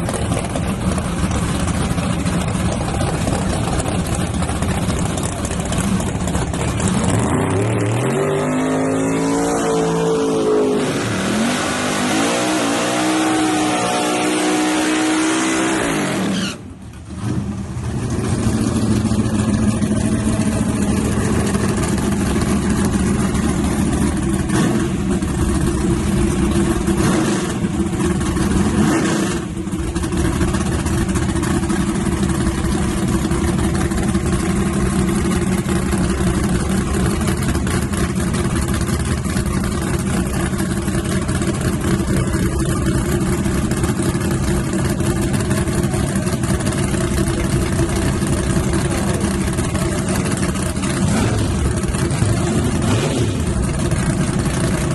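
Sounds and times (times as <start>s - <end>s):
truck engine idling: 0.0s - 8.0s, 16.6s - 54.9s.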